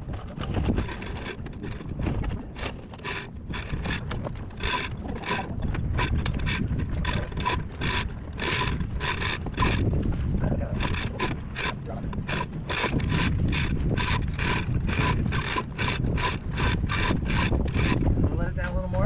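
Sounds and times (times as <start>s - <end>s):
low rumble of wind: 0.0s - 19.0s
hoist ratcheting clicks: 0.4s - 2.0s, 2.6s - 9.9s, 10.8s - 18.0s.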